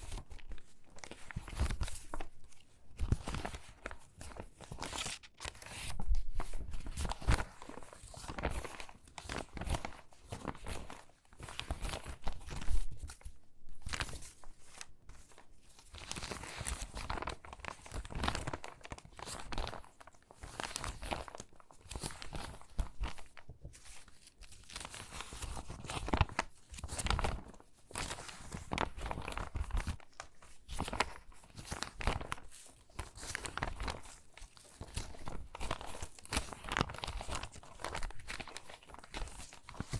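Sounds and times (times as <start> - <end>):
stiff paper crackling and rustling: 0.0 - 39.9.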